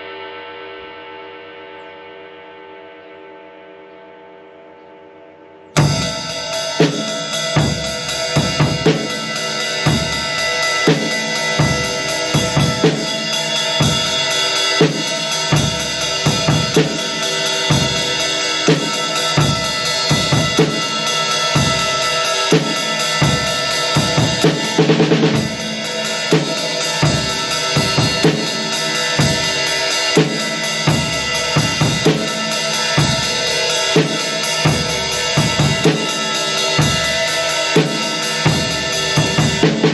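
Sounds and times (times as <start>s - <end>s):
drum kit groove: 5.8s - 39.9s
ride cymbal ringing wash: 5.8s - 39.9s.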